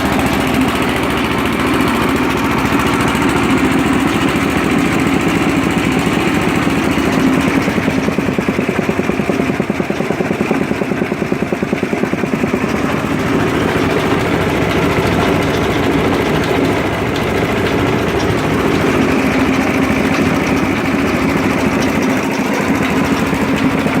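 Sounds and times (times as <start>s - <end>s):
air compressor chugging: 0.0s - 24.0s.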